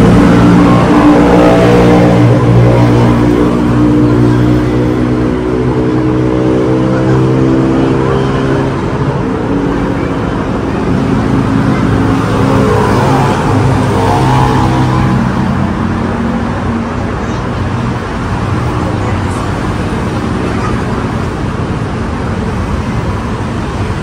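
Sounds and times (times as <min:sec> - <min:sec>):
cars passing: 0:00.0 - 0:24.0
vehicle engines droning: 0:00.0 - 0:24.0.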